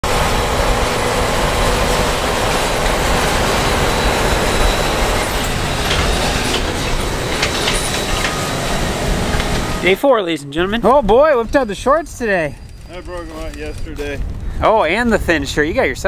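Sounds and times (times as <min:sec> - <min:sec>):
tractor engine rumble: 0:00.0 - 0:15.8.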